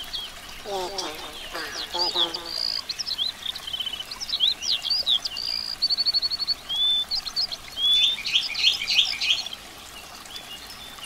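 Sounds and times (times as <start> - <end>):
birds chirping and trilling: 0.1 - 9.6.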